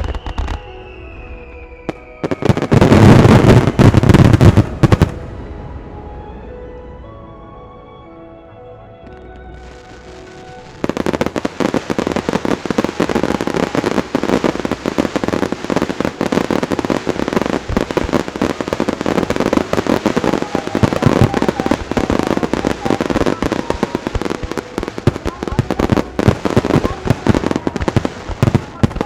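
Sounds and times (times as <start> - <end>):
fireworks booms and crackles: 0.0 - 6.8, 9.6 - 29.0
quiet music: 0.2 - 29.0.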